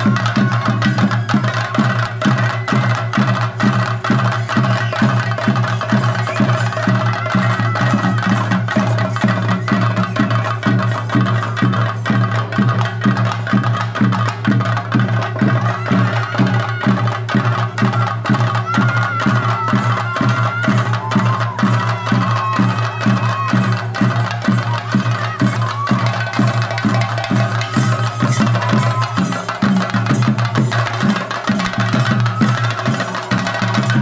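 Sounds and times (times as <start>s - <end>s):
drum ensemble playing: 0.0s - 34.0s.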